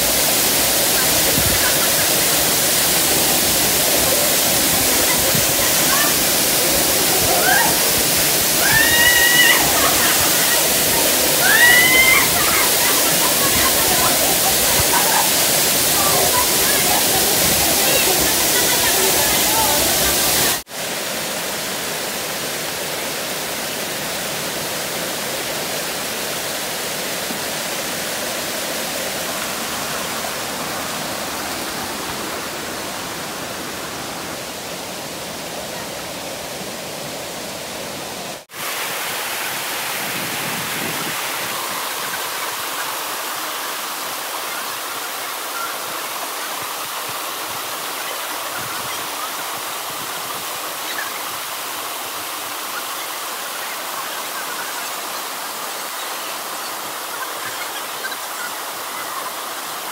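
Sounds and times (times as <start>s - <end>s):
flowing mountain water: 0.0s - 59.9s.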